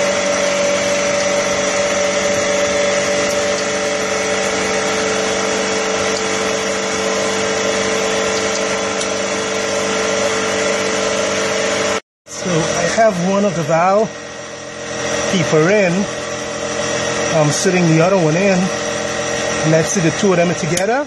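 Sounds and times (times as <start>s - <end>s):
motor humming with a whine: 0.0s - 21.0s.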